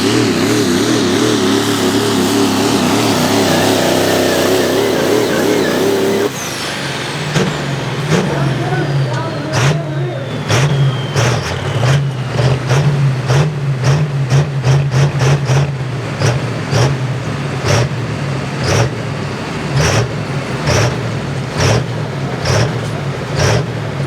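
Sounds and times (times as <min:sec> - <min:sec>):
diesel engine droning: 0:00.0 - 0:24.0.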